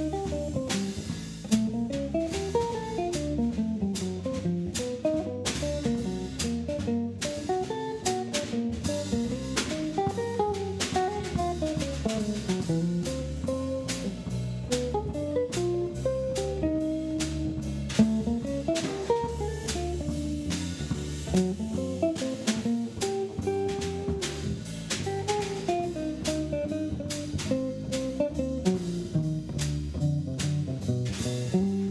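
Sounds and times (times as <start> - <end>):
bass: 0.0 - 31.9
drum kit: 0.0 - 31.9
guitar picking a melody: 0.0 - 31.9.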